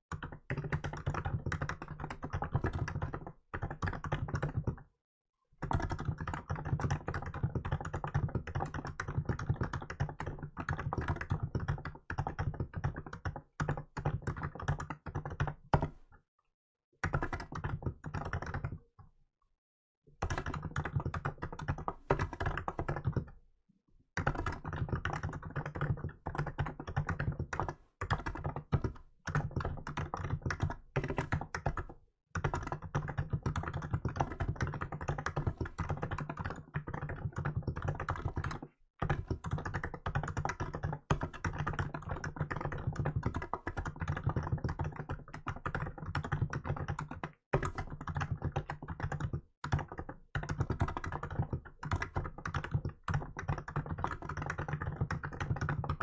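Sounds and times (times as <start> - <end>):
rapid keyboard typing: 0.1 - 4.8, 5.6 - 16.1, 17.0 - 18.8, 20.2 - 23.4, 24.2 - 56.0.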